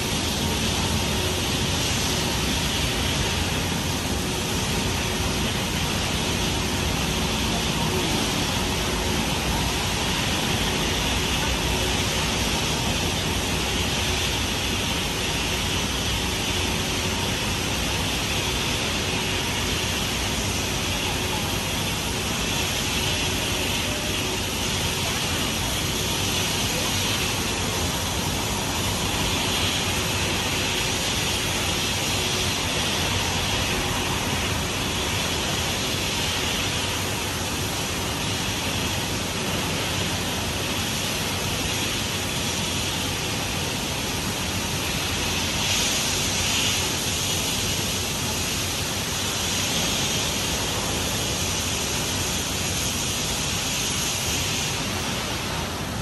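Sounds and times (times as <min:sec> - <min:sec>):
lift machinery running: 0:00.0 - 0:56.0.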